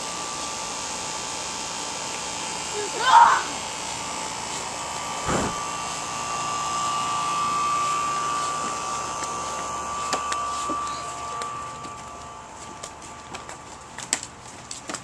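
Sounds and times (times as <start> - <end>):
air conditioner unit whining: 0.0 - 15.0.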